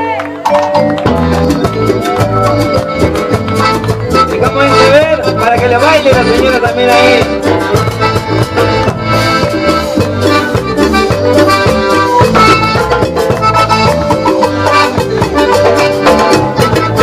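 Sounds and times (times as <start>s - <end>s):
live cumbia band playing: 0.0s - 17.0s.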